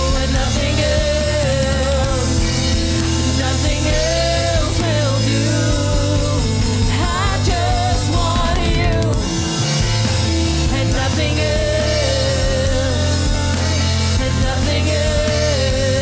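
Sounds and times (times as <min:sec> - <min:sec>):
woman singing into a microphone: 0:00.0 - 0:09.7, 0:10.6 - 0:16.0
band accompaniment: 0:00.0 - 0:16.0
electric keyboard: 0:00.0 - 0:16.0.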